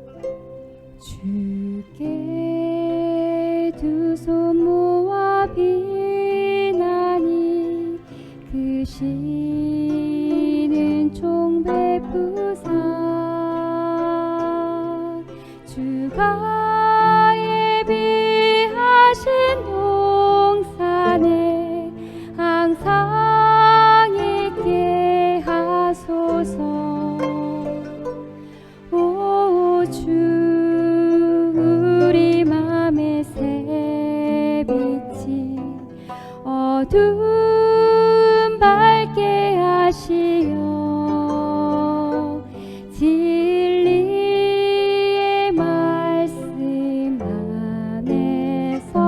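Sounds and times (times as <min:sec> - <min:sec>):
slow zither hymn music: 0:00.0 - 0:49.0.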